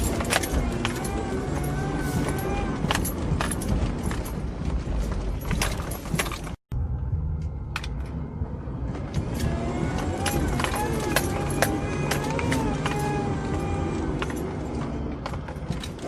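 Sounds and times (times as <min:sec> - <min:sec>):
clattering and rattling: 0:00.0 - 0:06.6, 0:09.0 - 0:16.0
engine and tyre rumble: 0:00.0 - 0:16.0.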